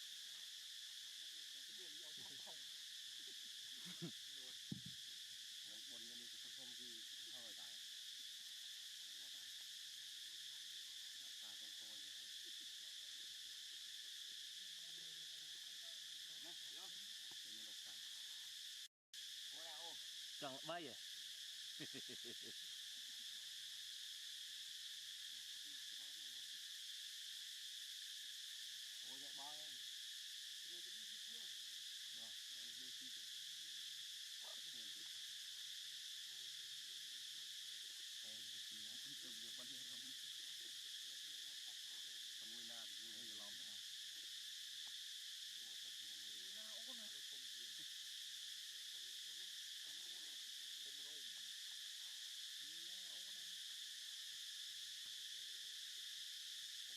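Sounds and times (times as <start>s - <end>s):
insect chorus buzzing: 0.0s - 56.9s.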